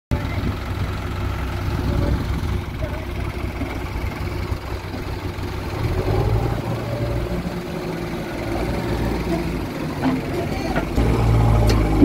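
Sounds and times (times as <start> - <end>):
diesel engine running: 0.1 - 12.0.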